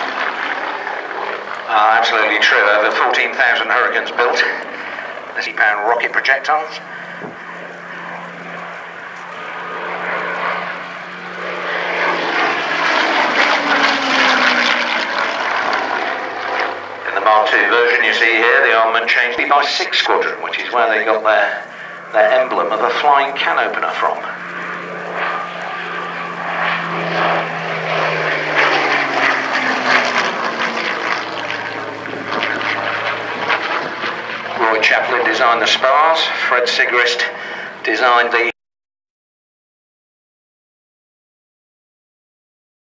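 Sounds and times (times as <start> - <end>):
propeller plane engine droning: 0.0 - 38.6.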